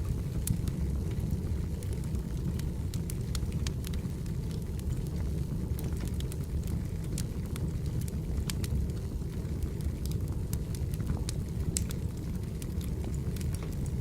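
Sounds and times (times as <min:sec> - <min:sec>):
firewood crackling and popping: 0:00.0 - 0:14.0
low rumble of flames: 0:00.0 - 0:14.0.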